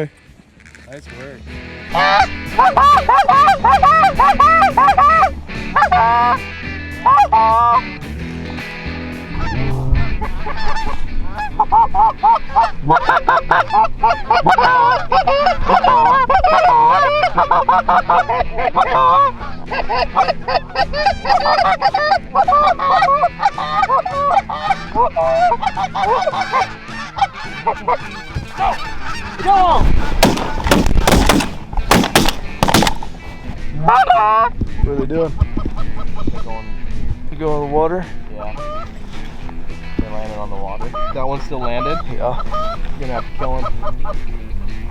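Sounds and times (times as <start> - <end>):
geese honking: 1.9 - 34.6, 38.4 - 44.9.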